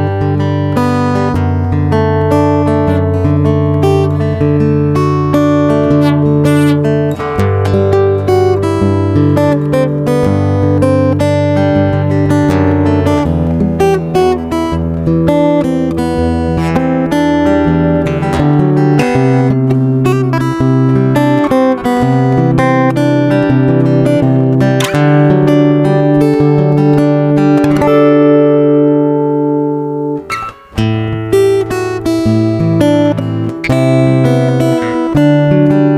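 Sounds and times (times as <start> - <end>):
acoustic guitar music: 0.0 - 35.9.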